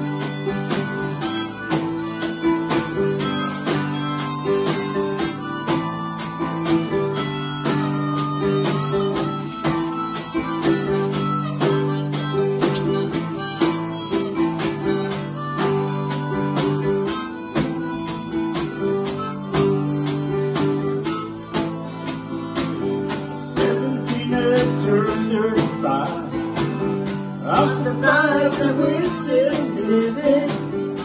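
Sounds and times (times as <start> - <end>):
acoustic guitar strumming: 0.0 - 31.0
held reedy notes: 0.0 - 31.0.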